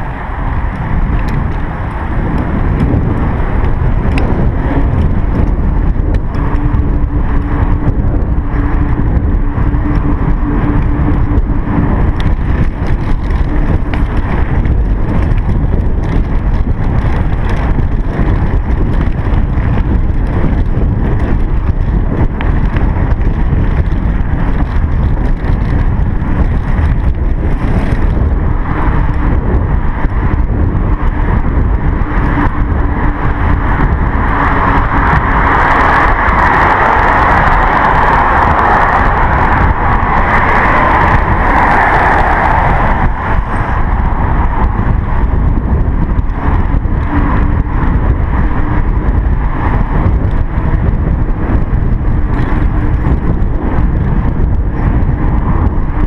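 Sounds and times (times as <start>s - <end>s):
wind buffeting and rumble: 0.0s - 56.0s.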